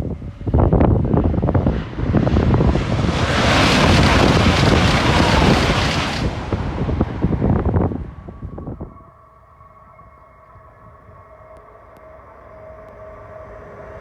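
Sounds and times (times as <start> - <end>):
high-speed train passing: 0.0 - 14.0
wind buffeting microphone: 0.0 - 14.0.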